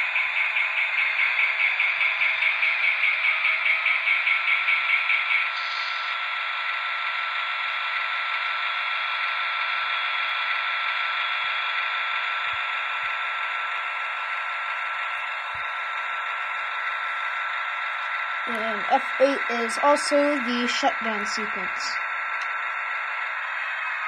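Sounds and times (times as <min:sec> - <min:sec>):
model locomotive diesel engine sound: 0:00.0 - 0:24.0.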